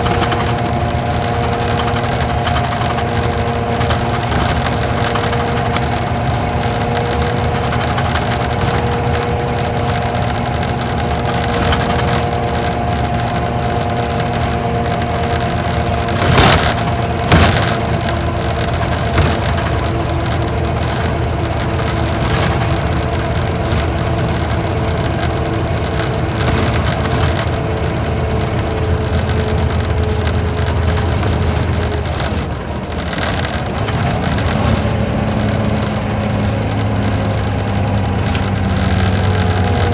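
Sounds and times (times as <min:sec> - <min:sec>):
sharp knocks: 0:00.0 - 0:35.9
bus diesel engine hum: 0:00.0 - 0:39.9
road noise: 0:00.0 - 0:39.9.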